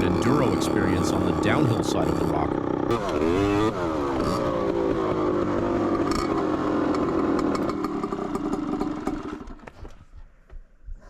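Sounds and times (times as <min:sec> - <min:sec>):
dirt bike engine at low revs: 0:00.0 - 0:11.0.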